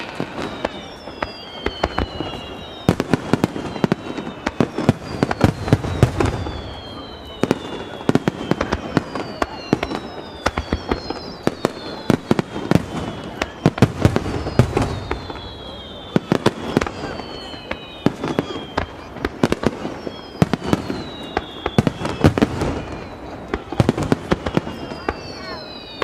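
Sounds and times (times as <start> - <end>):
falling firework whistles: 0.0 - 26.0
fireworks bangs echoing: 0.0 - 26.0.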